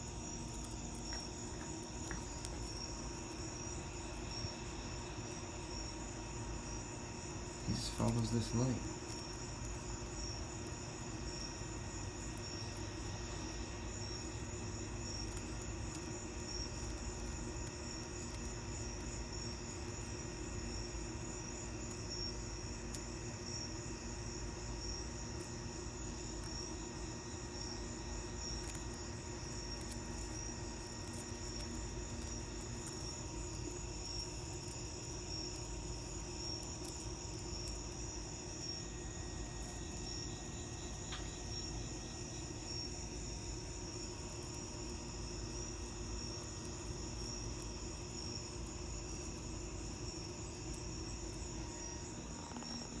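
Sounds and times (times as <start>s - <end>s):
insect chorus pulsing trill: 0.0s - 53.0s
low steady hum: 0.0s - 53.0s.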